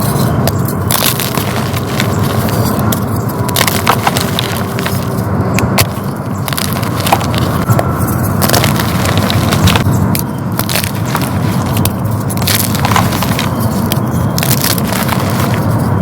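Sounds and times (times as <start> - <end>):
chalk crunching and crackling: 0.0 - 16.0.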